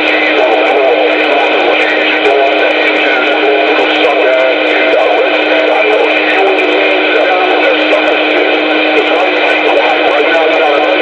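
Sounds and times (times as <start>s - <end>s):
distorted radio voice: 0.0s - 11.0s
radio crackle: 0.0s - 11.0s
steady radio tone: 0.0s - 11.0s.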